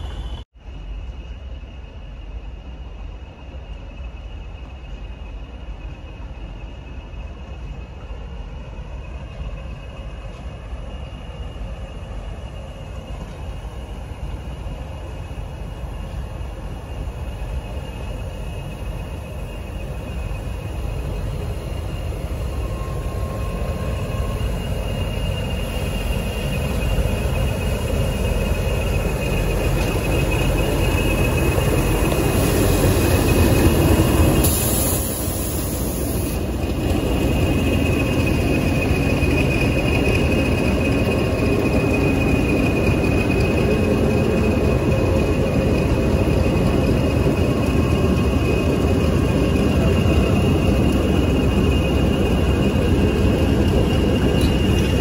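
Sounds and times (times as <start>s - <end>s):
diesel locomotive approaching: 0.0s - 55.0s
rail rumble: 0.0s - 55.0s.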